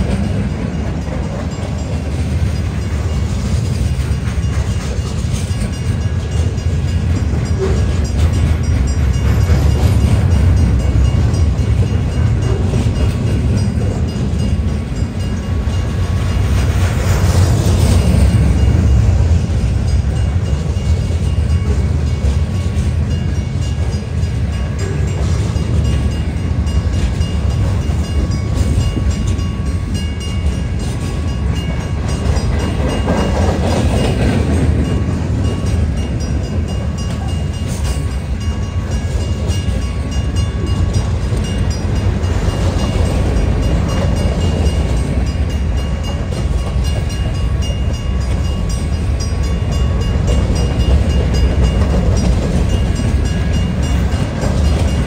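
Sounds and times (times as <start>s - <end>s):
clickety-clack on rail joints: 0.0s - 55.0s
freight train wheels rumbling: 0.0s - 55.0s.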